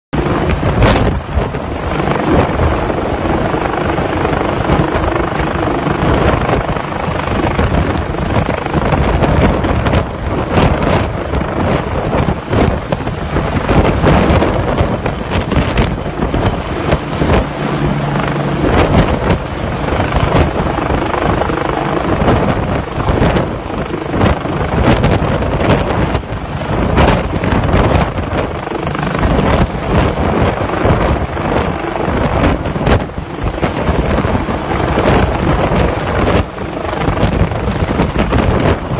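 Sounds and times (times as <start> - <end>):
helicopter hovering: 0.1 - 38.9
wind buffeting microphone: 0.1 - 38.9.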